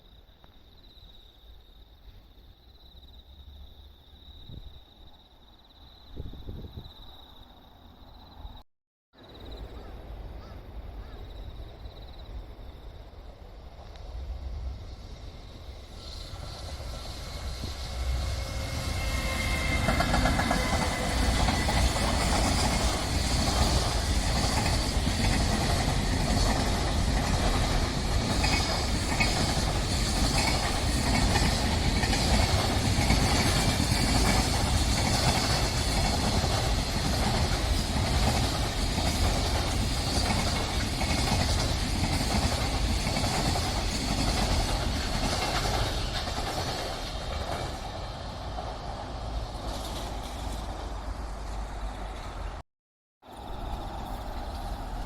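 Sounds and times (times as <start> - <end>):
train passing on rails: 9.2 - 52.6, 53.2 - 55.0.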